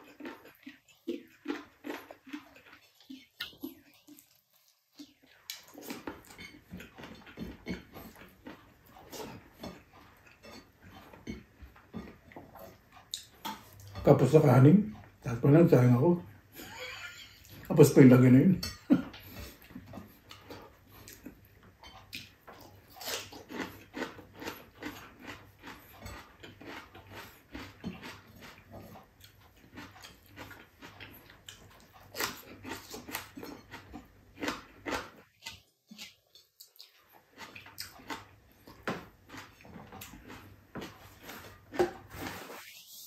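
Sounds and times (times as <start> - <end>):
person chewing and lip-smacking: 0.0 - 14.0, 18.6 - 42.5.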